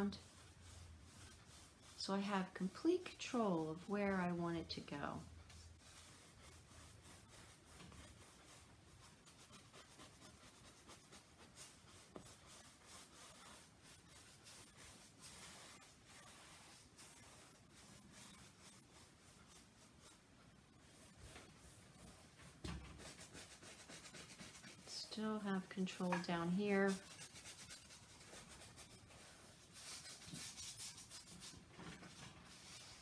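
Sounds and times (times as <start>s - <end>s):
paintbrush scratching on canvas: 0.0s - 33.0s.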